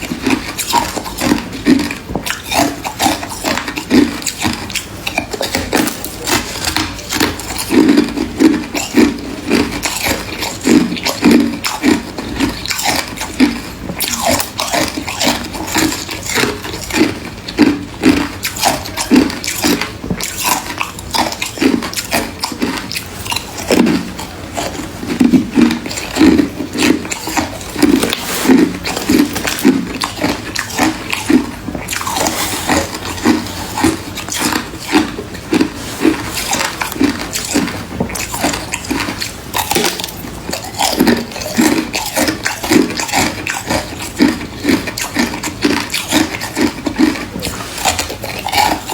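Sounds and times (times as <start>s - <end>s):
chewing crunchy frost: 0.0s - 48.9s.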